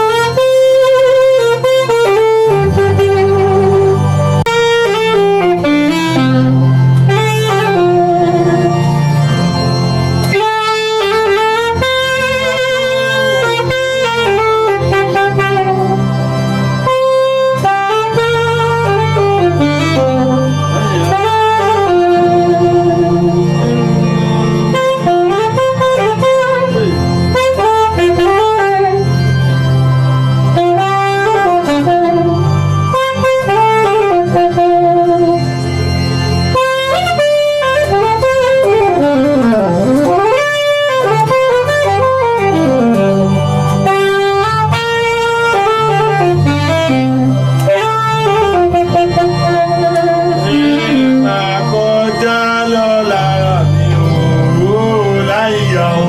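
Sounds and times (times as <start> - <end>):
bass line: 0.0 - 56.0
saxophone melody: 0.0 - 56.0.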